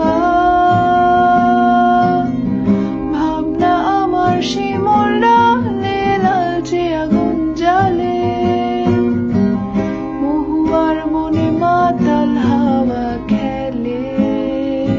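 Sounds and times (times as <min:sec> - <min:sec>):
person singing: 0:00.0 - 0:09.2, 0:10.2 - 0:14.9
acoustic guitar: 0:00.0 - 0:14.9.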